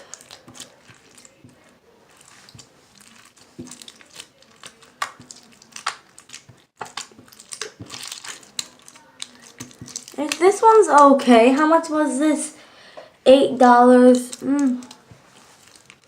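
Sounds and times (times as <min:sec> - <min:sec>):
slime squishing with clicks: 0:00.0 - 0:11.7, 0:14.1 - 0:16.0.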